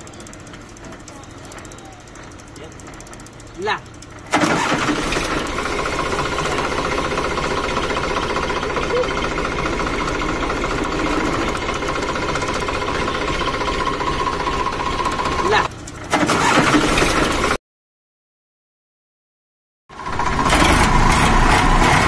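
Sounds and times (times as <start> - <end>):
diesel tractor engine running: 0.0 - 17.6, 19.9 - 22.0.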